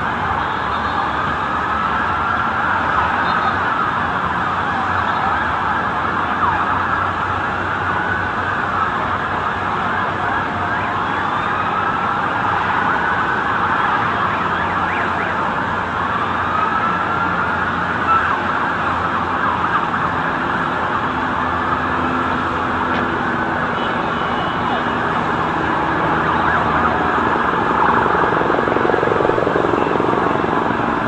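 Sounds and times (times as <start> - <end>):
emergency vehicle sirens: 0.0 - 31.0
street noise: 0.0 - 31.0.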